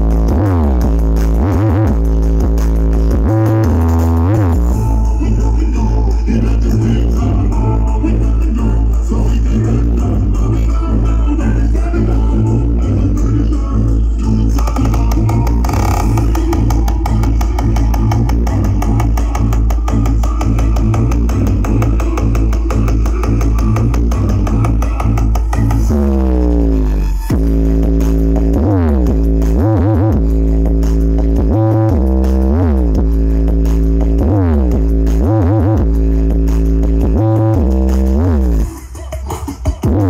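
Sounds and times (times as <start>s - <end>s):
bass-heavy music over speakers: 0.0s - 40.0s.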